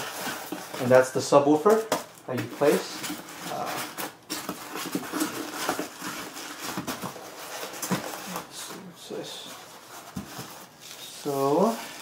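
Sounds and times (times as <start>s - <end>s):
foam inserts rustling and scraping: 0.0s - 12.0s
plastic wrap crinkling: 0.0s - 12.0s.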